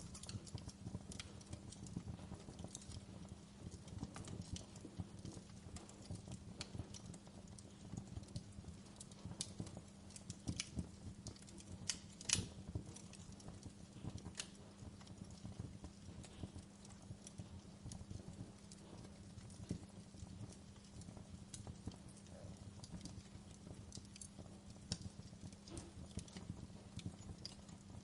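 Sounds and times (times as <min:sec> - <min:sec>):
logs crackling and popping: 0:00.0 - 0:28.0.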